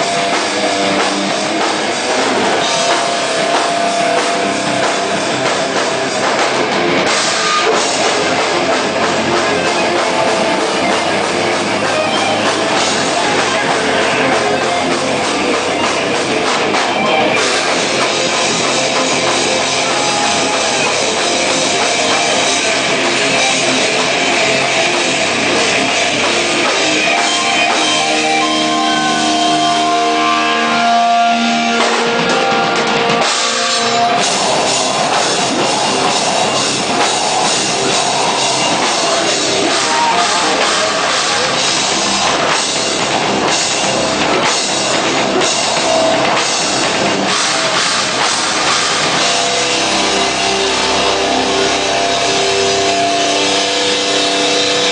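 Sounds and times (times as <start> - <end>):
dense drumming: 0.0 - 54.9
distorted guitars: 0.0 - 54.9.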